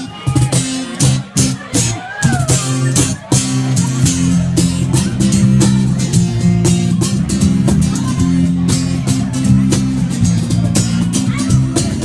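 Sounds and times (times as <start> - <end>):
bass guitar line: 0.0 - 12.0.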